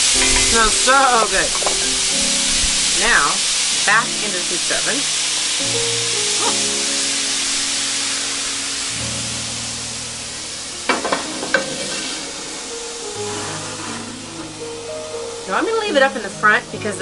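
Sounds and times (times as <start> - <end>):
fruit sizzling in a pan: 0.0 - 17.0.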